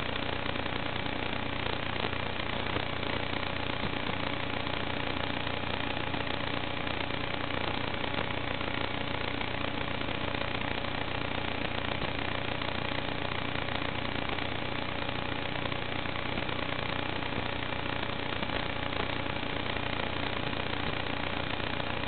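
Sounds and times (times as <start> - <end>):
static hiss: 0.0 - 22.0.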